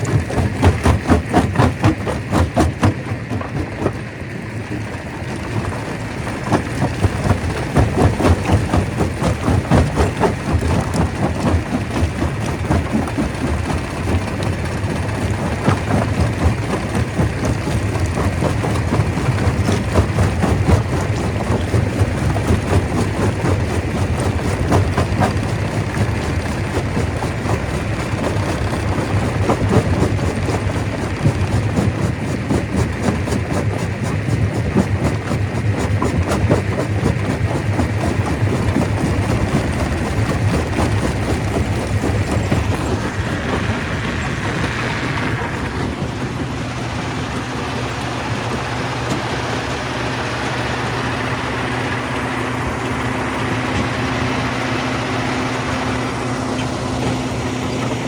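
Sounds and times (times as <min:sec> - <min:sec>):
stone crusher machine hum: 0:00.0 - 0:33.9, 0:34.5 - 0:58.0.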